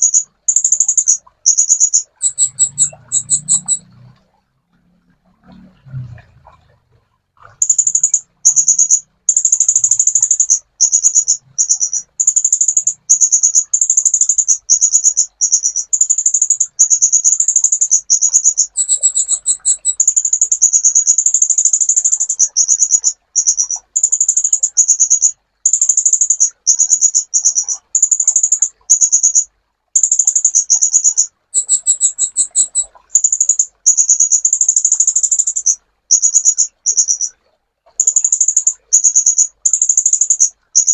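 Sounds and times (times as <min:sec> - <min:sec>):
bird singing high trilled phrases: 0:00.0 - 0:04.0, 0:07.6 - 0:37.4, 0:38.0 - 0:40.9.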